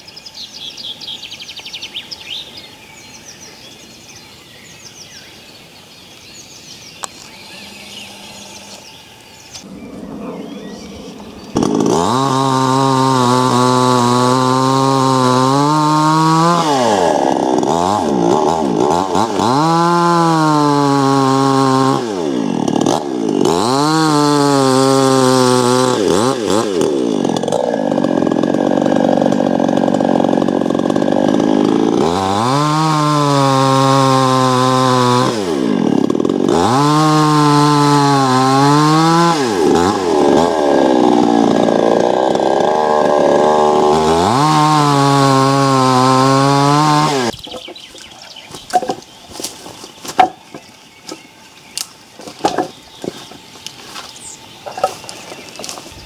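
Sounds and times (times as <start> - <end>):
chainsaw cutting wood: 9.6 - 56.0.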